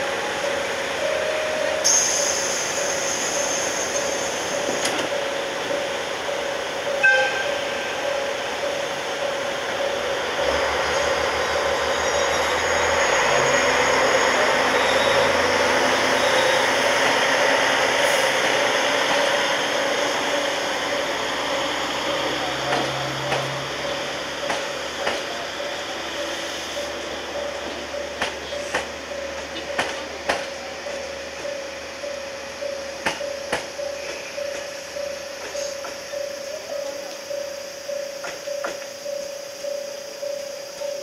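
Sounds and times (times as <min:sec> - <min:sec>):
diesel train hum: 0:00.0 - 0:41.0.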